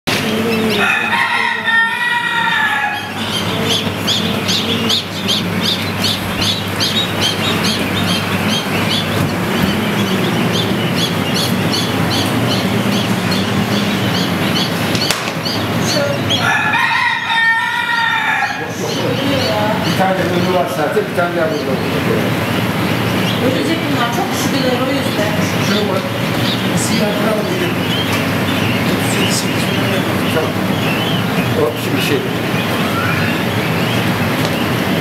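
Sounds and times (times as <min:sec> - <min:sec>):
crowing call: 0:00.1 - 0:20.5, 0:21.5 - 0:34.9
chicks peeping: 0:00.1 - 0:35.0
incubator machinery whirring: 0:00.1 - 0:35.0.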